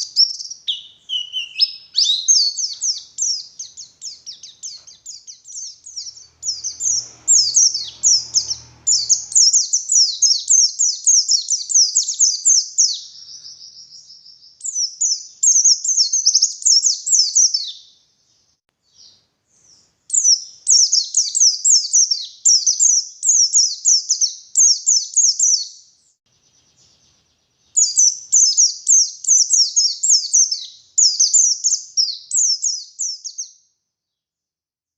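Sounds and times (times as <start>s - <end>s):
bird twittering song: 0.0s - 33.7s.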